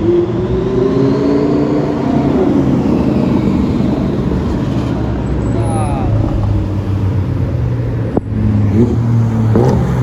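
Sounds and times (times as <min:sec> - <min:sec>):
low rumble of traffic: 0:00.0 - 0:10.0.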